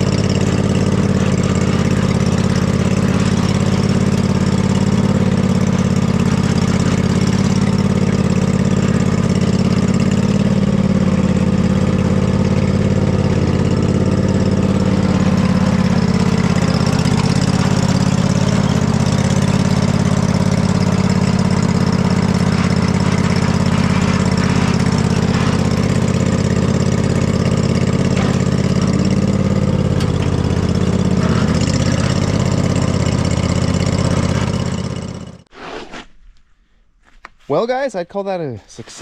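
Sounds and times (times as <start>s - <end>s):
riding mower engine running: 0.0s - 35.5s.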